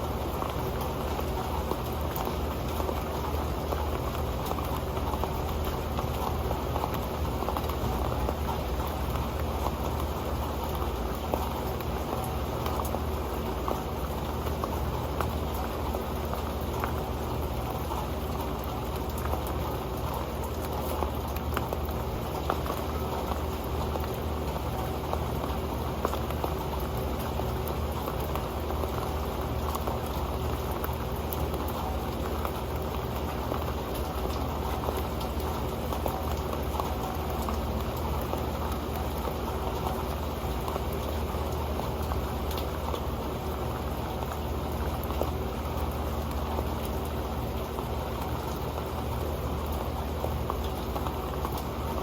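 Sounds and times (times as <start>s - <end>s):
rain pattering on a pan: 0.0s - 52.0s.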